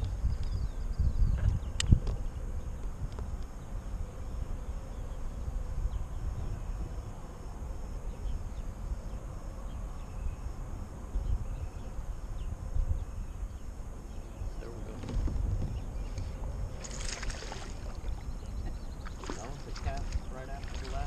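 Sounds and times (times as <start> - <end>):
insects chirping: 0.0 - 21.0
low rumbling microphone noise: 0.0 - 21.0.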